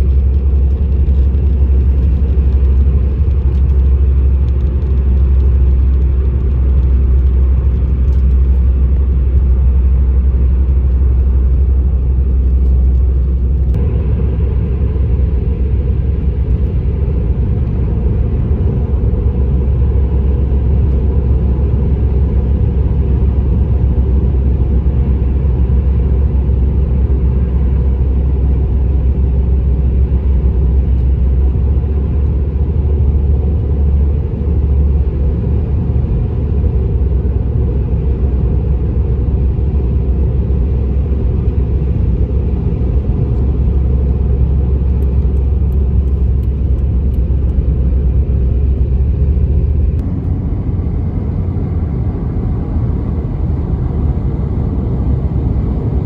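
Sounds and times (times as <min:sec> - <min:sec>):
car cabin road and engine noise: 0:00.0 - 0:56.0.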